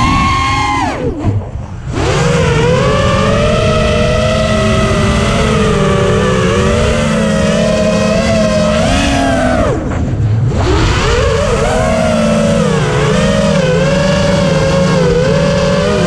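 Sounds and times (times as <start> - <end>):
drone motors whining: 0.0 - 16.0
low rumble of wind: 0.0 - 16.0.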